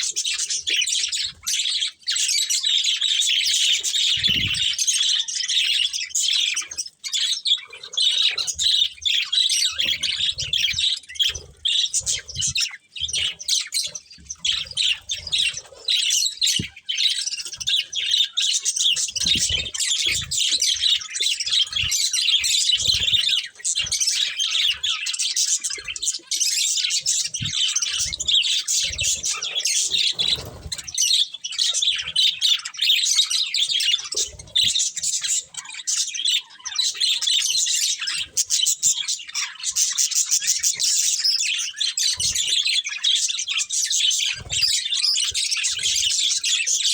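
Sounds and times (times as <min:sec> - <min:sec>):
budgerigars chattering and chirping: 0:00.0 - 0:46.9.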